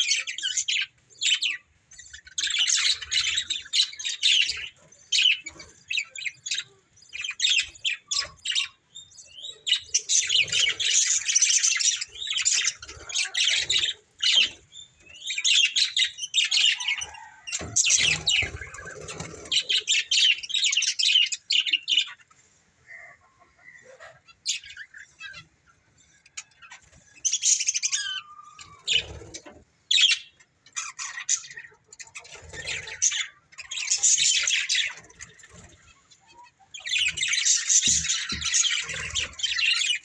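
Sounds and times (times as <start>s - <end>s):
budgerigars chattering and chirping: 0.0s - 40.0s.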